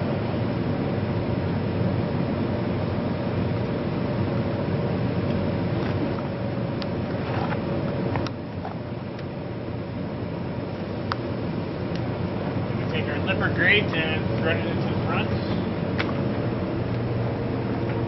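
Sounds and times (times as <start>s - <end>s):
low mechanical background noise: 0.0s - 18.0s.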